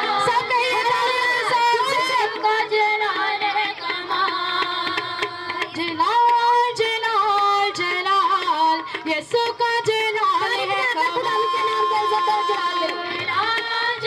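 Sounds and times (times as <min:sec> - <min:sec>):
percussion beat: 0:00.0 - 0:14.0
women singing into microphones: 0:00.0 - 0:14.0.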